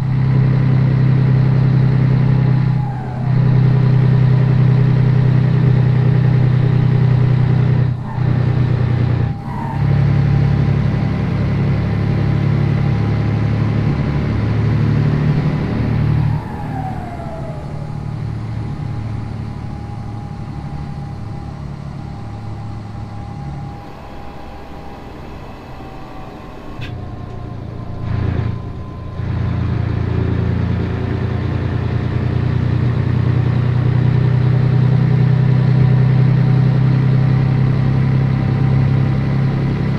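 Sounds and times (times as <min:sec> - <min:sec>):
falling whine: 0:00.0 - 0:39.9
truck diesel engine running: 0:00.0 - 0:39.9.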